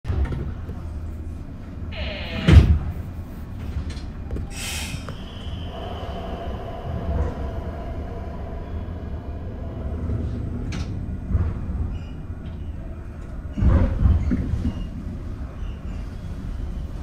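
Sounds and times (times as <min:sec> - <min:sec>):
low rumble of standing train: 0:00.1 - 0:17.0.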